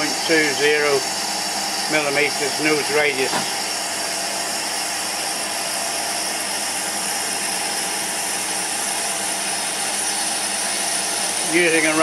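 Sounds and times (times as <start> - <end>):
lathe whining while cutting metal: 0.0 - 12.0.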